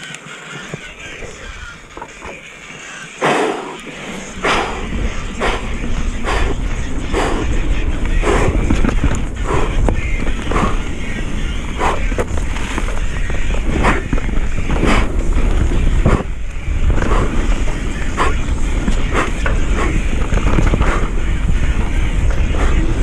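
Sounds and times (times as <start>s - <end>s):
tyres rumbling on dirt: 0.0s - 23.0s
bike rattling over bumps: 0.6s - 3.0s, 3.7s - 23.0s
wind on microphone: 3.5s - 23.0s.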